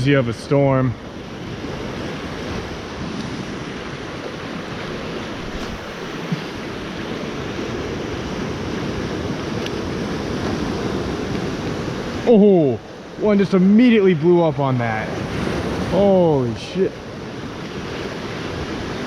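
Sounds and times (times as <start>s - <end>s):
ocean surf washing ashore: 0.0s - 19.0s.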